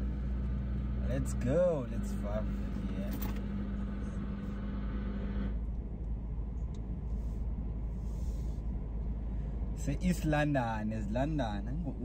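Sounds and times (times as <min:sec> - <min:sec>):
engine and road rumble: 0:00.0 - 0:12.0
steady hum and hiss: 0:00.0 - 0:12.0.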